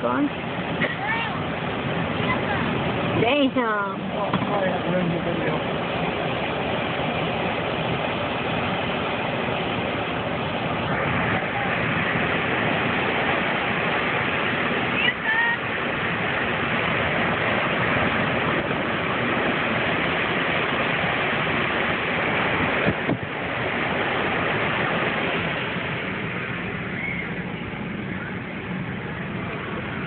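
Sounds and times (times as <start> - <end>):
strong wind rushing: 0.0 - 30.0
surf breaking over rocks: 0.0 - 30.0.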